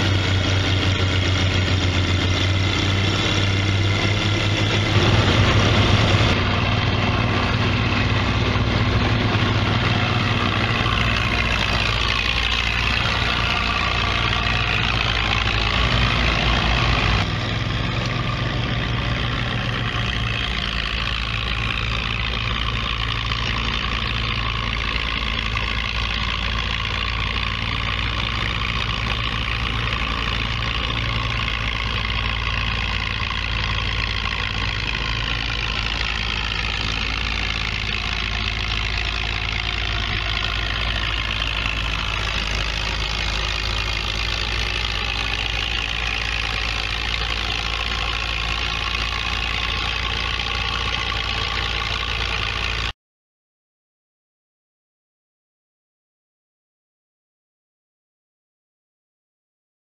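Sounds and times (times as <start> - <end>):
tractor engine under load: 0.0 - 53.0.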